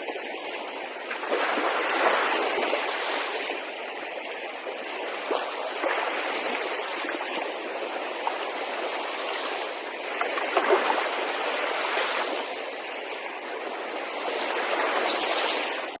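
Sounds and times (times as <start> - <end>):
sea water washing and splashing: 0.0 - 16.0.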